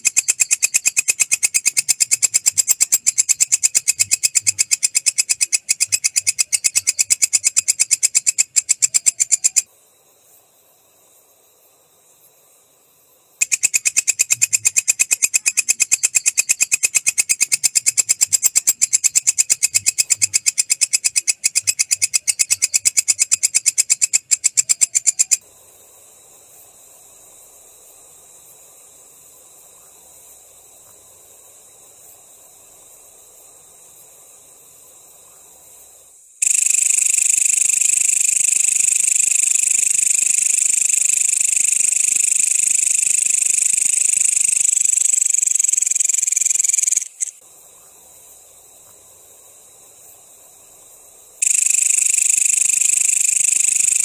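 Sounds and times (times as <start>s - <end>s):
faint steady hiss: 0.0s - 54.0s
katydid stridulating: 0.0s - 54.0s.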